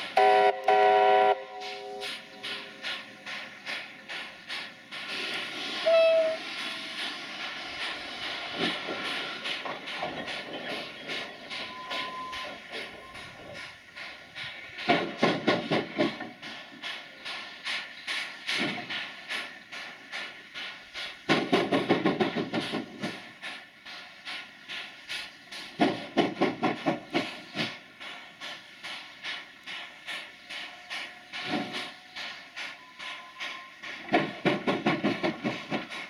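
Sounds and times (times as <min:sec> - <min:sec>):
steam hissing: 0:00.0 - 0:36.0
steam locomotive exhaust beats: 0:00.0 - 0:36.0.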